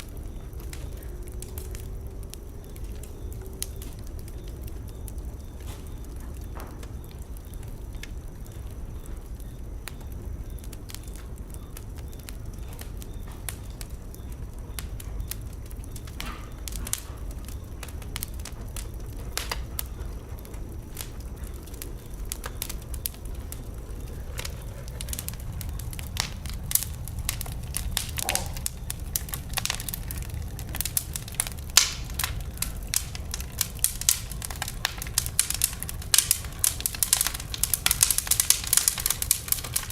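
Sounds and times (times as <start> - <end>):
rumble of fire flames: 0.0 - 39.9
wood fire crackling and popping: 0.0 - 39.9.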